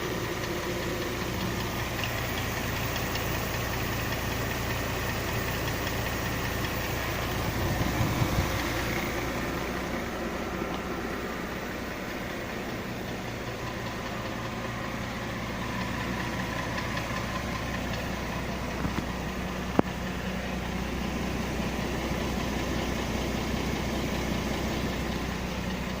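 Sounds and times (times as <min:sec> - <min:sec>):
car engine idling with knock: 0:00.0 - 0:26.0.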